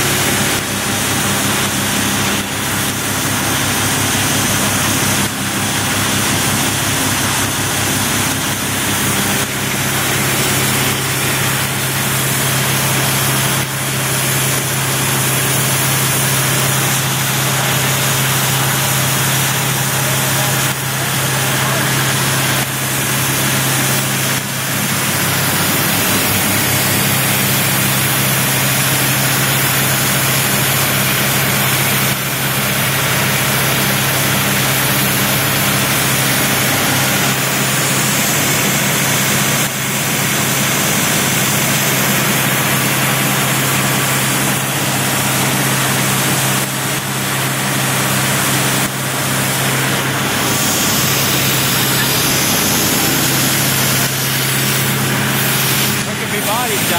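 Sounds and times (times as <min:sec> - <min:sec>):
pump engines droning: 0:00.0 - 0:56.9.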